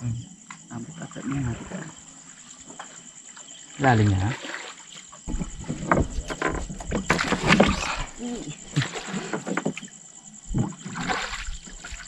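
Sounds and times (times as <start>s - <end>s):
water splashing and sloshing: 1.0s - 12.0s.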